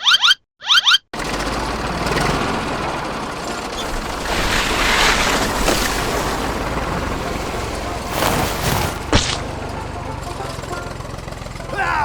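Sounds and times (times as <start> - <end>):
small motor running: 1.2 - 11.7.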